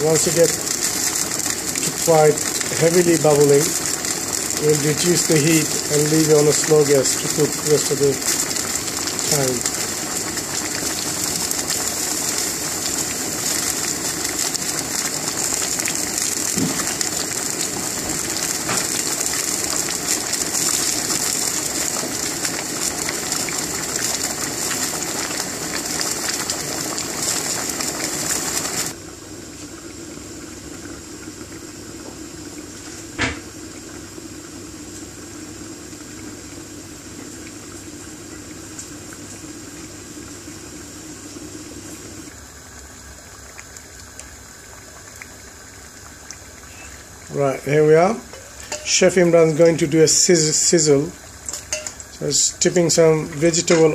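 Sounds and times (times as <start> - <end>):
pot boiling and bubbling: 0.0 - 53.9.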